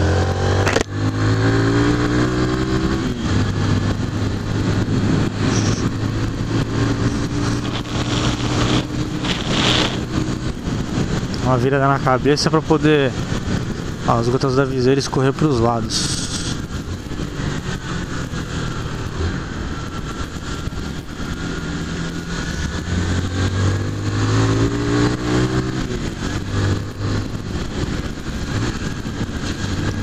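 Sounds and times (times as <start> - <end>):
motorcycle engine running: 0.0 - 30.0
wind rush: 1.2 - 30.0
wet road noise: 2.6 - 14.1, 15.8 - 30.0.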